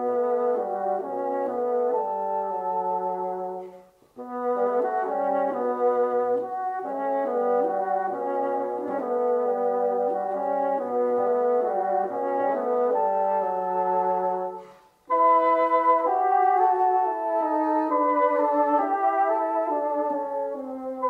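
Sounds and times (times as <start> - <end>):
classical bassoon music: 0.0 - 21.0.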